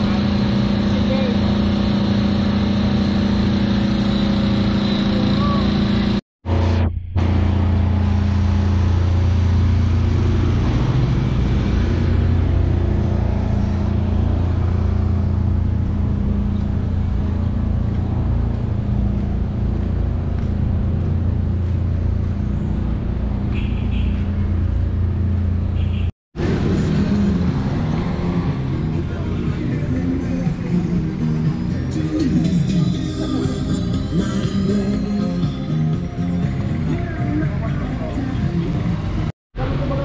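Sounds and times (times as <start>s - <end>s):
traffic engines humming: 0.0s - 40.0s.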